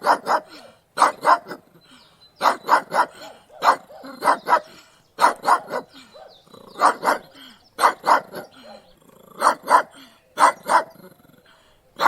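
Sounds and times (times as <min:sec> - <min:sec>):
dog barking: 0:00.0 - 0:01.7, 0:02.4 - 0:11.1.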